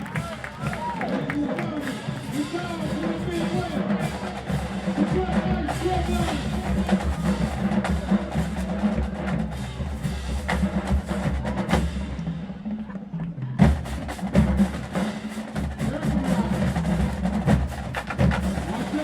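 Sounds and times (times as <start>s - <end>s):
marching drumline cadence: 0.0s - 19.0s.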